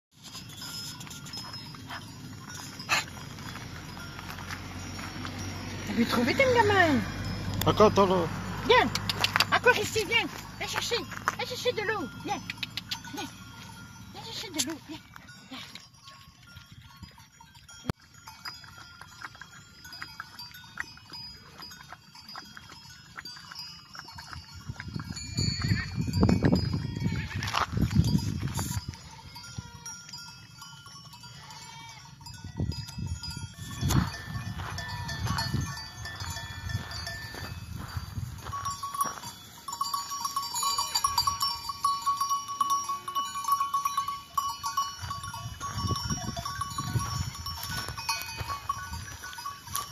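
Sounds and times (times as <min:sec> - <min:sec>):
goat bells clanking: 0:00.1 - 0:49.9.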